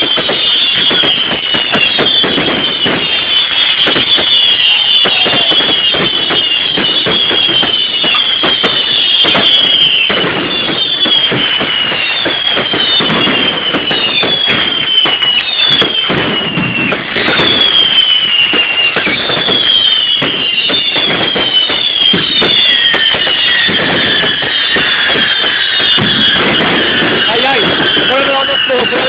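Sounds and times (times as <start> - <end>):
fireworks crackling: 0.0 - 29.0
whistling fireworks: 0.0 - 29.0.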